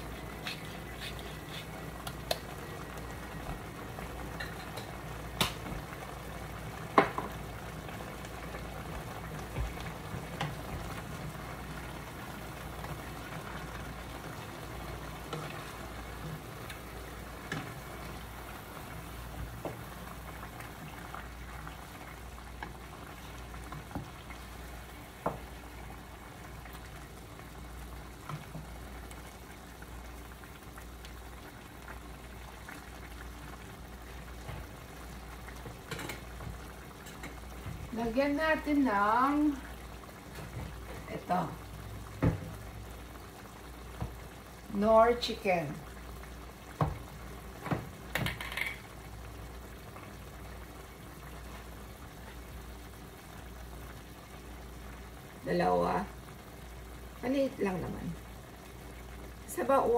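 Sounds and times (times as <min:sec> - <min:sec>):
stew bubbling in a pot: 0:00.0 - 0:59.9.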